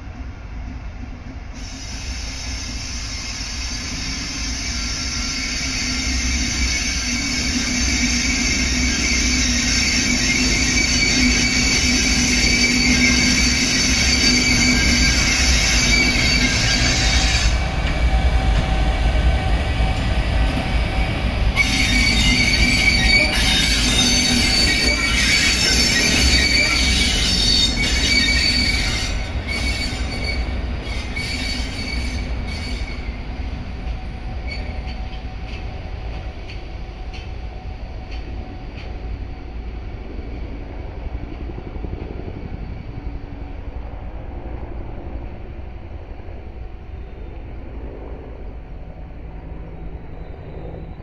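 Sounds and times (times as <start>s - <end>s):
high steady locomotive whine: 0.0s - 51.0s
wheels rumbling on rails: 5.8s - 51.0s.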